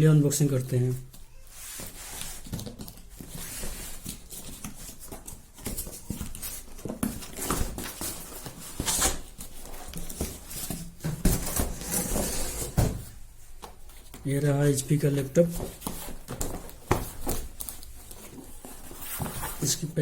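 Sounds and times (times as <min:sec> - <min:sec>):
packaging rustling and scraping: 0:01.4 - 0:14.2, 0:15.2 - 0:19.9.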